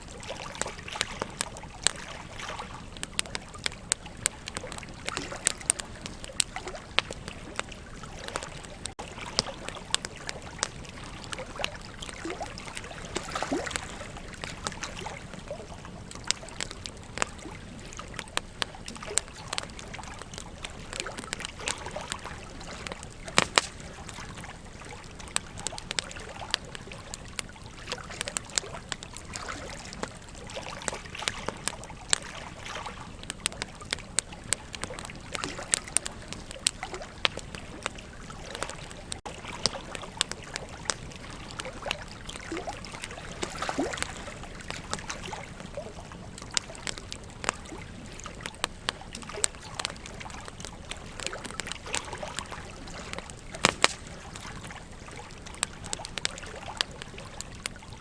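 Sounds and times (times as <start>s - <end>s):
flowing river: 0.0s - 58.0s
wood fire crackling and popping: 0.0s - 58.0s.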